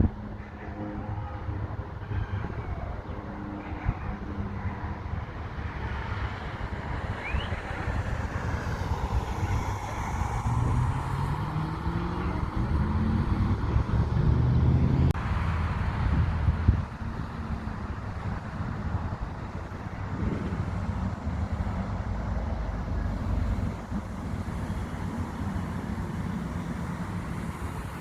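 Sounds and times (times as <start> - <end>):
aircraft engines rumbling: 0.0 - 28.0.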